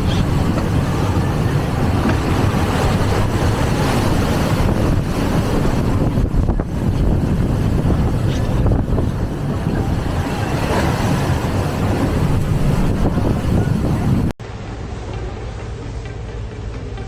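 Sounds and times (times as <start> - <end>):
storm wind buffeting microphone: 0.0 - 14.4.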